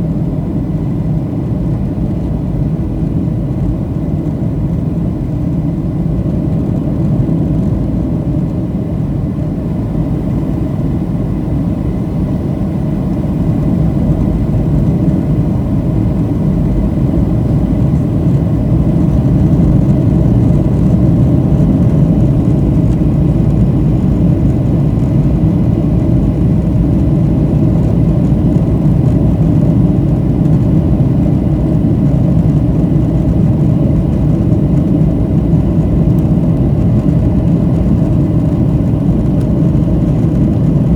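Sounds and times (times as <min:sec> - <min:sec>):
jet engine roar in cabin: 0:00.0 - 0:40.9.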